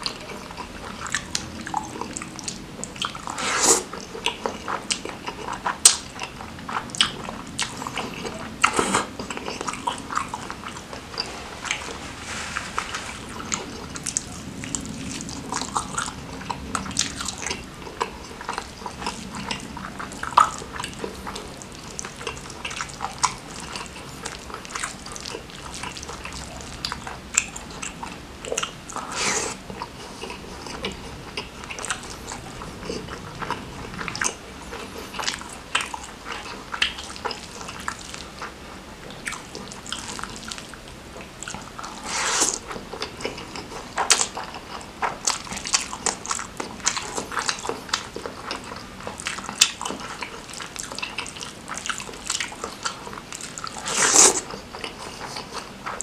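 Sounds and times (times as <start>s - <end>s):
wet chewing: 0.0s - 56.0s.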